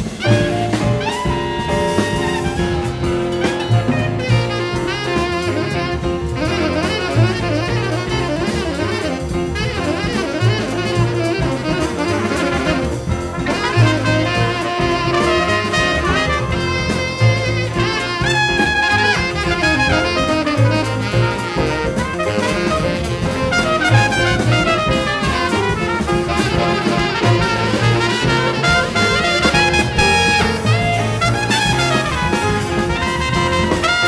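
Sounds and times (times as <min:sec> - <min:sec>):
double bass: 0:00.0 - 0:34.0
drum kit: 0:00.0 - 0:34.0
piano: 0:00.0 - 0:34.0
tenor saxophone: 0:00.0 - 0:34.0
trumpet: 0:00.0 - 0:34.0.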